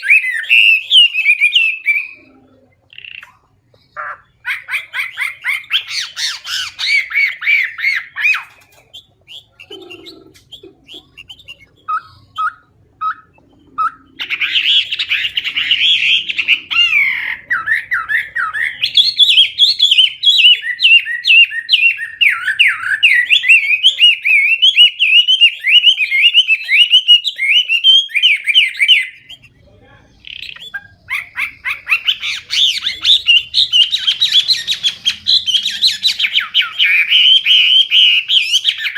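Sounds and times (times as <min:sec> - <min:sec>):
songbird warbling and whistling: 0:00.0 - 0:29.6, 0:30.2 - 0:38.9.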